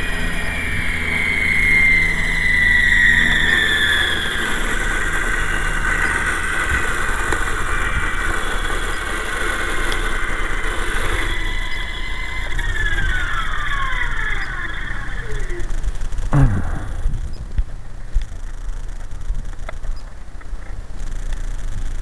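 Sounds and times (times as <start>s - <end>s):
model helicopter rotor whine: 0.0s - 22.0s.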